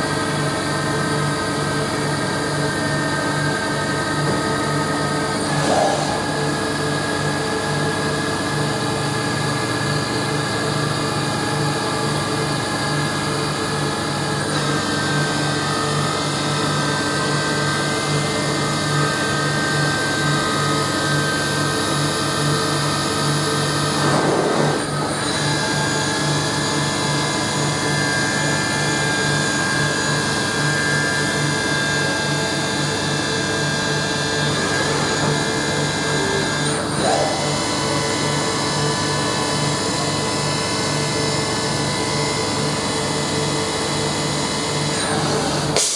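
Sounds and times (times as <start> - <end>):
machine mechanical whine: 0.1 - 45.8.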